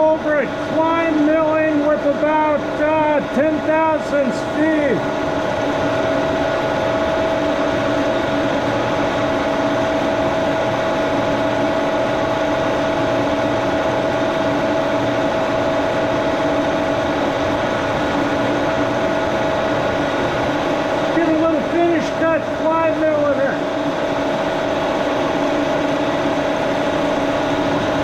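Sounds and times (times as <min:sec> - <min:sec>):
constant machine whine: 0:00.0 - 0:28.0
milling machine running: 0:00.0 - 0:28.0.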